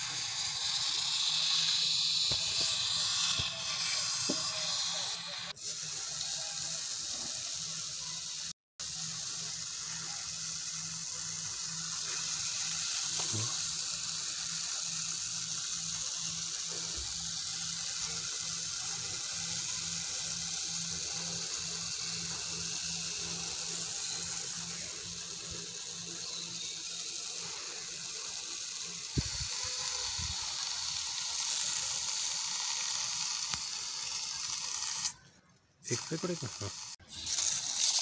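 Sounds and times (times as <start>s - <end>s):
spray bottle hissing: 0.0s - 35.2s, 35.9s - 38.0s.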